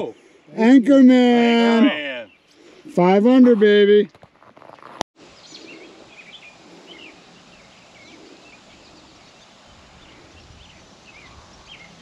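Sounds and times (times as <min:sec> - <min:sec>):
birds chirping: 0:00.0 - 0:03.4, 0:04.6 - 0:12.0
outdoor ambience: 0:00.0 - 0:12.0.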